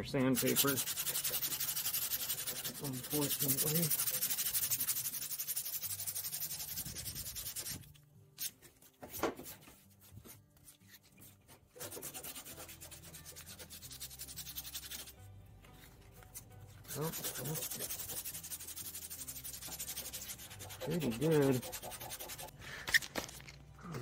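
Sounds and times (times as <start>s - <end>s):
sandpaper rubbing on metal: 0.2s - 8.6s, 9.4s - 15.2s, 15.8s - 22.5s.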